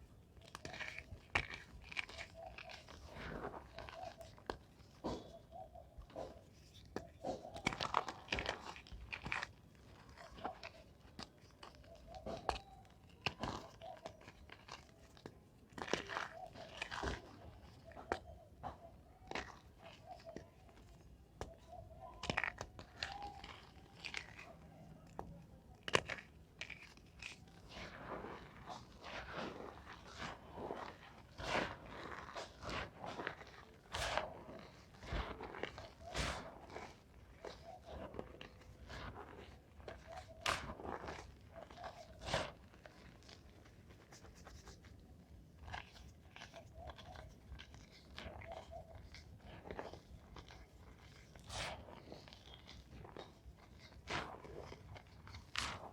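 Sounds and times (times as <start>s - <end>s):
chalk crunching and crumbling: 0.0s - 55.9s.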